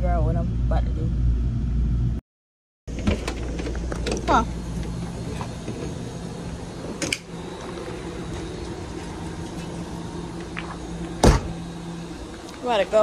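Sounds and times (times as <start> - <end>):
steady machine hum: 0.0 - 2.2, 2.9 - 13.0.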